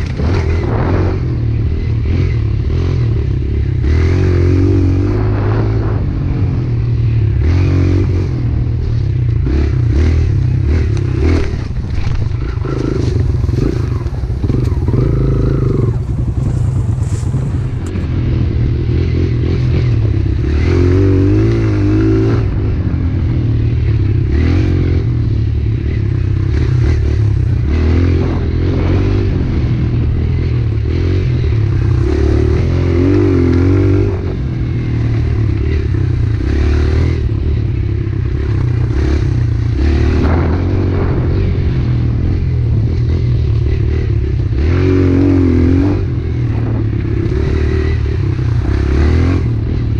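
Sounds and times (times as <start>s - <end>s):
motorbike engine revving: 0.0s - 49.9s.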